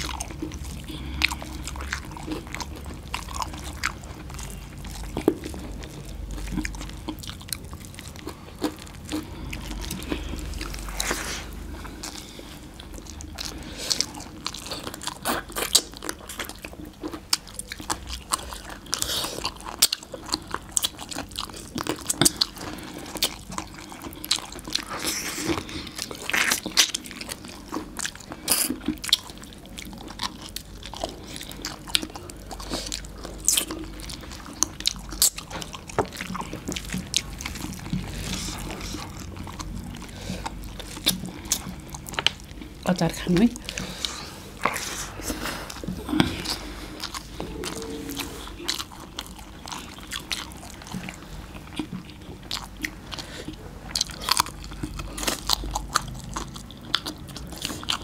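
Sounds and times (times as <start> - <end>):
people chewing and crunching food: 0.0 - 58.0
wet squishes of mixing food: 0.0 - 58.0.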